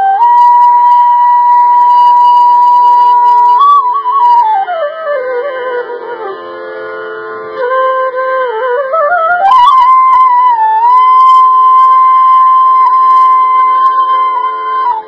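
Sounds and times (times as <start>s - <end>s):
flute playing slow melody: 0.0s - 6.4s, 7.6s - 15.0s.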